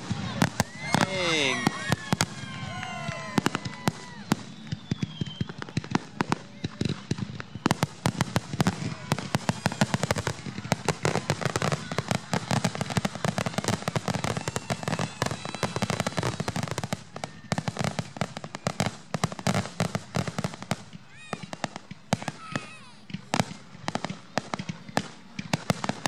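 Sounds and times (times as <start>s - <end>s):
fireworks bursting: 0.0s - 26.0s
fireworks crackling: 0.0s - 26.0s.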